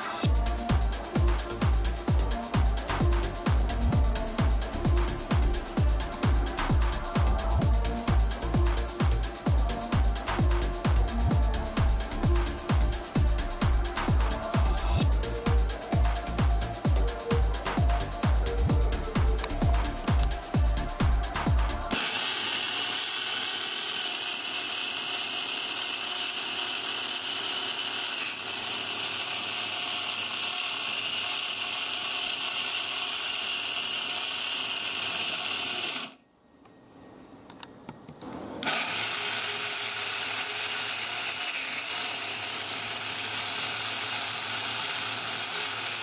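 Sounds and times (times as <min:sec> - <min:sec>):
small fan motor whirring: 0:00.0 - 0:36.2, 0:38.6 - 0:46.0.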